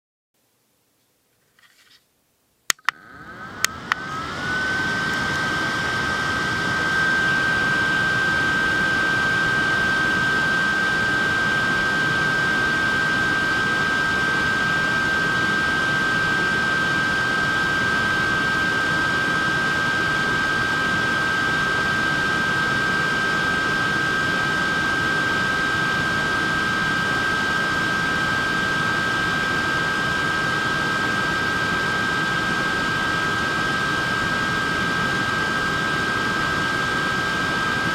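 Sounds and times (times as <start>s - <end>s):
small fan running: 2.7s - 37.9s.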